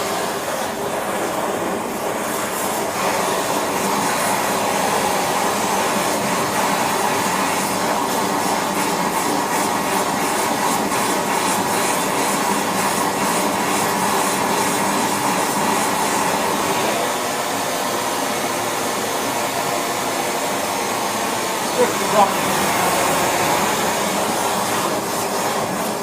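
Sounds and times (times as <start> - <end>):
torch flame rushing: 0.0 - 26.0.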